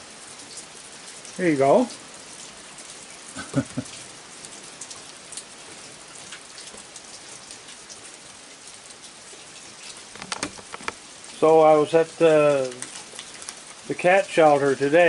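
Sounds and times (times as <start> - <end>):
rain falling: 0.0 - 15.0
drips ticking on surfaces: 0.4 - 15.0.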